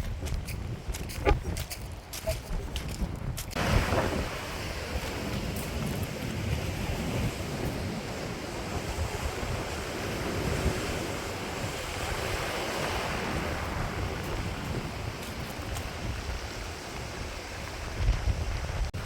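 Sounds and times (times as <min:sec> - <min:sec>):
sea surf washing: 0:00.0 - 0:19.0
wind buffeting microphone: 0:00.0 - 0:19.0.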